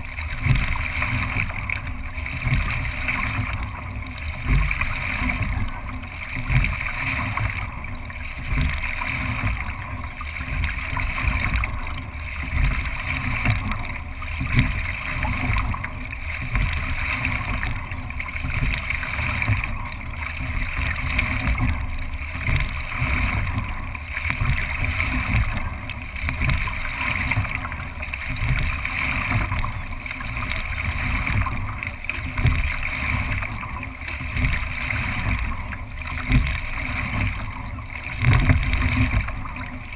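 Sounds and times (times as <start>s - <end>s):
water rushing along boat hull: 0.0s - 39.9s.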